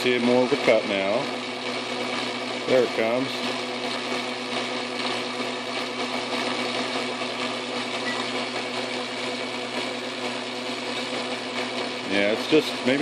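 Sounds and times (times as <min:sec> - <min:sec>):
metal lathe motor hum: 0:00.0 - 0:13.0.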